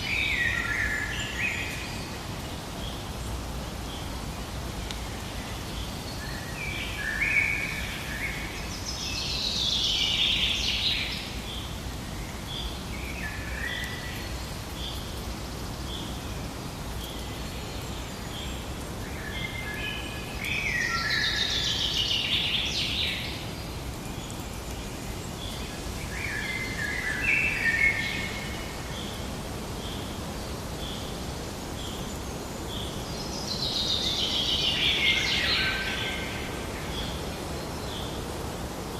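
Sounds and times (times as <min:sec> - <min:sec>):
low background hiss: 0:00.0 - 0:38.9.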